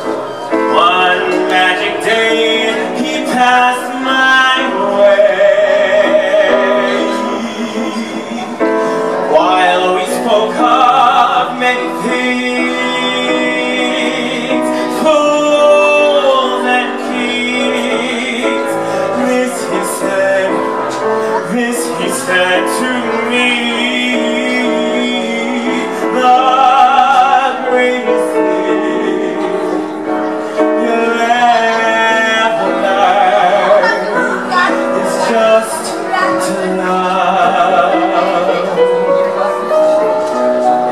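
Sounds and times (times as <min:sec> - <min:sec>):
man singing with vibrato: 0:00.0 - 0:40.9
piano accompaniment: 0:00.0 - 0:40.9.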